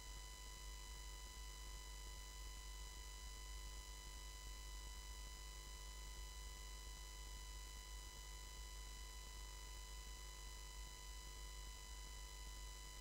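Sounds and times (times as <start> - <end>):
faint steady hum and hiss: 0.0 - 13.0.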